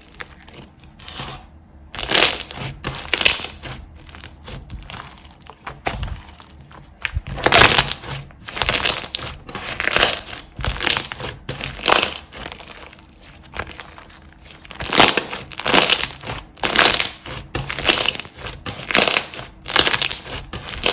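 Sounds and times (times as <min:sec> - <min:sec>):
slime crackling and crunching: 0:00.0 - 0:20.9.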